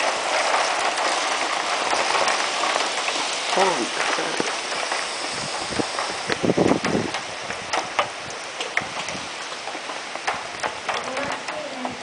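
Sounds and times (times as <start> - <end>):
heavy rain falling: 0.0 - 12.0
raindrops ticking near microphone: 0.0 - 12.0.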